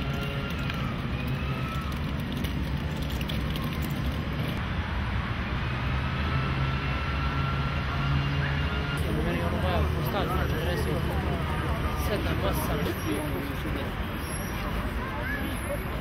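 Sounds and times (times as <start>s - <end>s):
distant traffic rumble: 0.0s - 16.0s.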